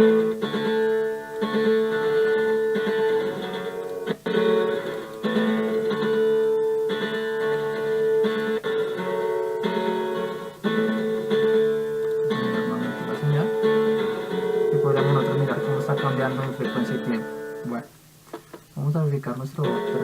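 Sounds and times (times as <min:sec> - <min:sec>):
acoustic guitar chords with echo: 0:00.0 - 0:18.7, 0:19.4 - 0:20.0.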